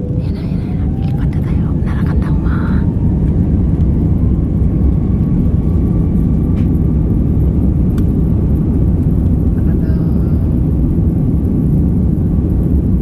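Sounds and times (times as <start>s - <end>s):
jet engines and wheels rumbling: 0.0s - 13.0s.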